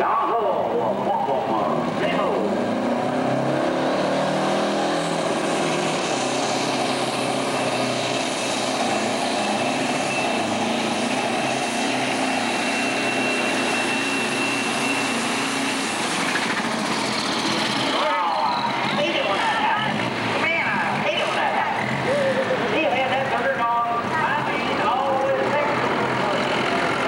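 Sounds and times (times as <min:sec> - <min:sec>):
diesel engine roaring: 0:00.0 - 0:27.0.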